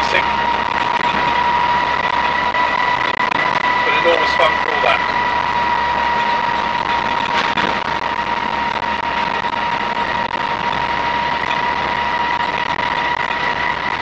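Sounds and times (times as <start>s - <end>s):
road noise: 0.0s - 14.0s
steady high whine: 0.0s - 14.0s
truck engine running: 0.0s - 14.0s.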